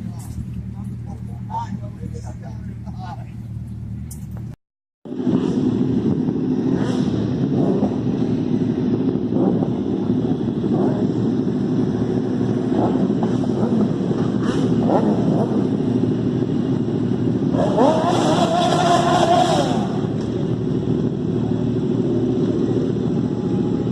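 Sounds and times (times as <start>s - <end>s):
motorcycle engine running: 0.0s - 23.9s
wind noise on microphone: 4.1s - 23.9s.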